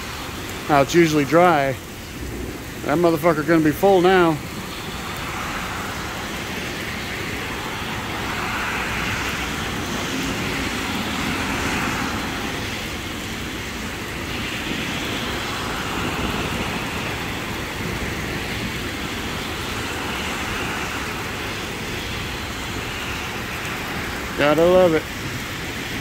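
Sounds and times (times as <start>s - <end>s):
car tyres hissing on wet road: 0.0s - 26.0s
steady rain: 0.0s - 26.0s.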